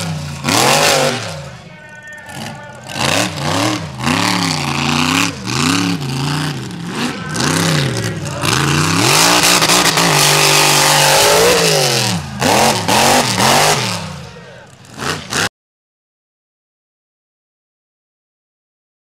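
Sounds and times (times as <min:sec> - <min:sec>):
truck engine revving: 0:00.0 - 0:15.5.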